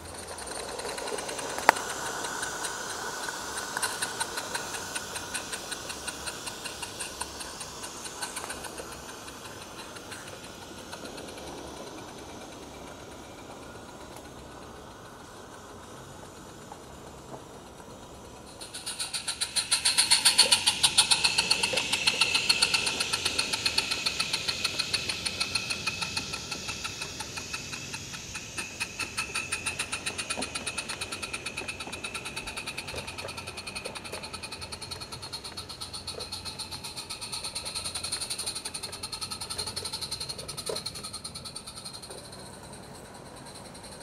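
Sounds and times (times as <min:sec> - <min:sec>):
steam hiss: 0:00.0 - 0:44.0
steam locomotive chuffing: 0:00.0 - 0:44.0.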